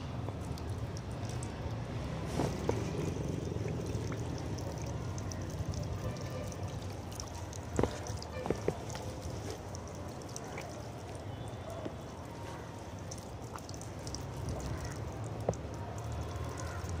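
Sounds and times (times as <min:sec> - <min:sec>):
water splashing from a tap: 0:00.1 - 0:17.0.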